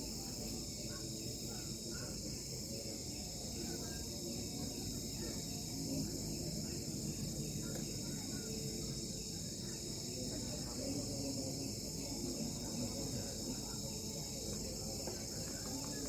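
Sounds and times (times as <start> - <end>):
crickets chirring: 0.0 - 16.0
low background murmur: 0.0 - 16.0.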